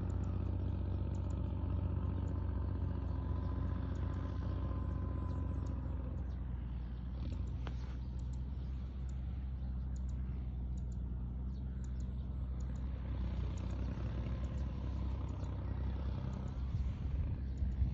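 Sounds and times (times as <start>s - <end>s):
motor engine droning: 0.0s - 17.9s.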